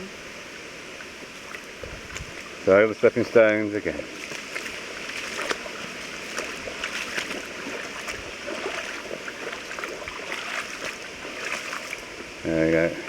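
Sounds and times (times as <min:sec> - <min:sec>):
stream babbling over stones: 0:00.2 - 0:13.0.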